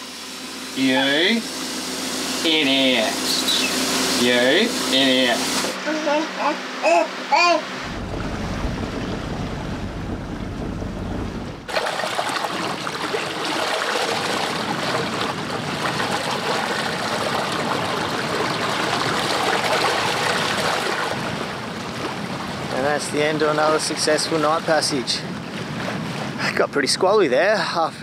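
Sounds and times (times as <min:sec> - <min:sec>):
water rushing along hull: 0:00.0 - 0:28.0
wind: 0:00.0 - 0:28.0.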